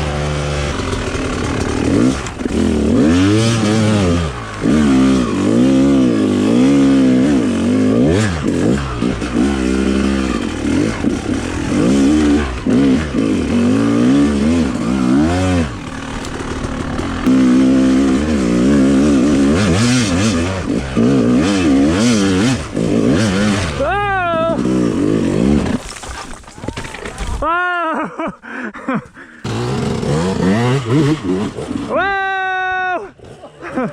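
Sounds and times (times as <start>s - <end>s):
dirt bike engine revving: 0.0s - 25.8s, 29.4s - 33.9s.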